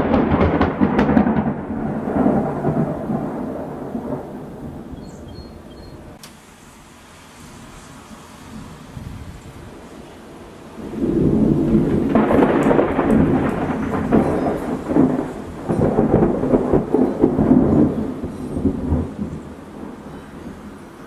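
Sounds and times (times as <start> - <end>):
thunder rumbling and crackling: 0.0 - 6.2, 8.5 - 21.0.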